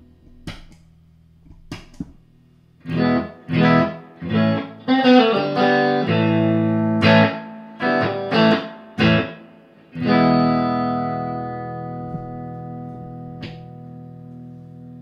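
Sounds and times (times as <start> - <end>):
electric guitar chords: 2.8 - 15.0.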